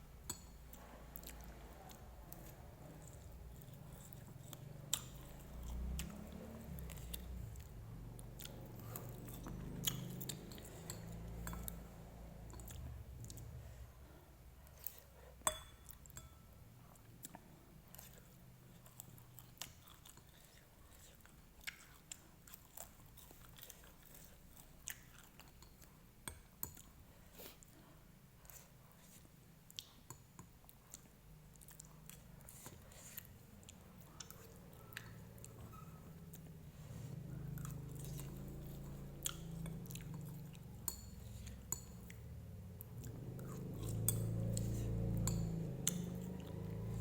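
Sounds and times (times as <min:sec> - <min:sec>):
person chewing noodles: 0:00.2 - 0:16.2, 0:16.8 - 0:47.0.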